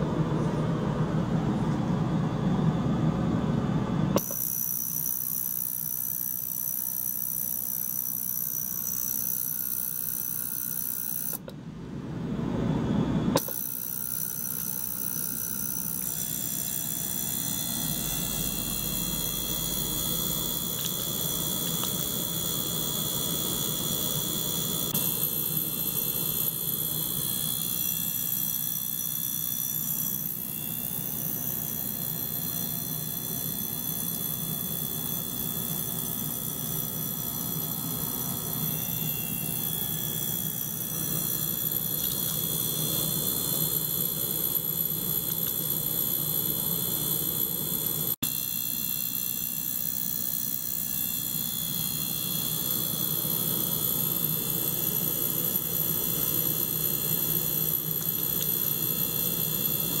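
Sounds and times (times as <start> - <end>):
high-pitched whine: 0.0 - 11.5, 12.2 - 60.0.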